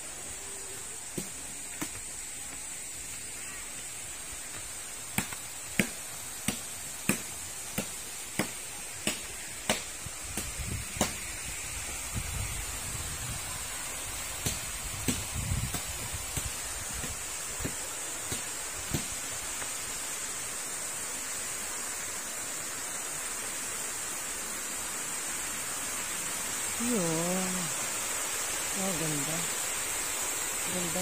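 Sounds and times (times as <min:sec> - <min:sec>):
rushing water hiss: 0:00.0 - 0:31.0.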